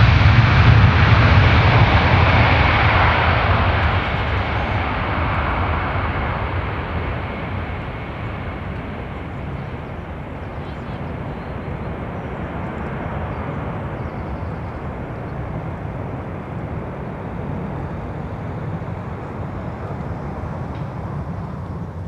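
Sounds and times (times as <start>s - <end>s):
deep jet engine noise: 0.0s - 22.0s.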